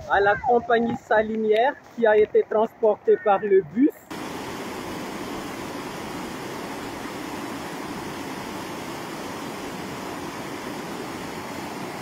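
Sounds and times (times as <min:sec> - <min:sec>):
floodwater rushing: 0:01.8 - 0:12.0.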